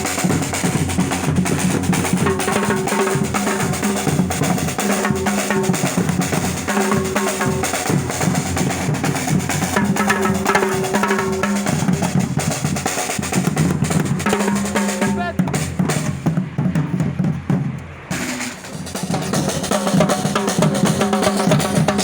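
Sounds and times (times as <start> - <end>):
drum and percussion music: 0.0 - 22.0.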